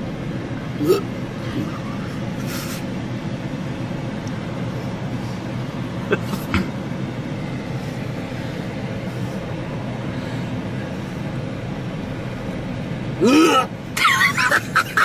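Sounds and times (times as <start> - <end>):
truck cabin rumble: 0.0 - 15.0.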